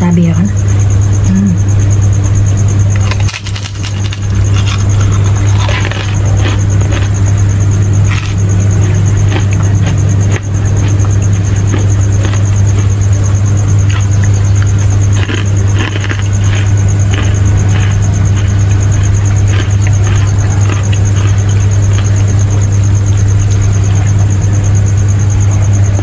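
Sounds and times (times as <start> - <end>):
high insect trill: 0.0 - 26.0
steady low hum: 0.0 - 26.0
chewing and eating: 2.9 - 24.3.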